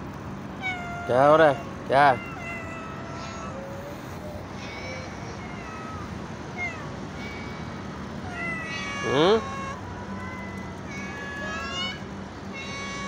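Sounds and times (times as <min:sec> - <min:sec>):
cats meowing softly: 0:00.6 - 0:13.0.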